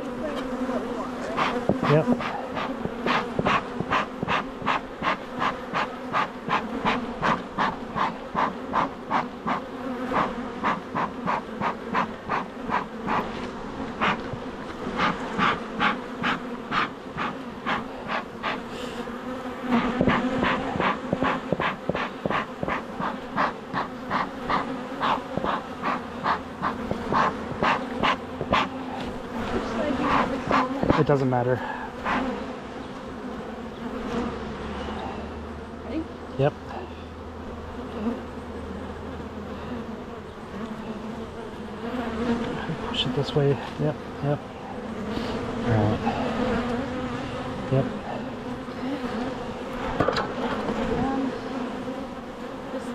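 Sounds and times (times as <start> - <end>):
honeybees buzzing: 0.0 - 52.9.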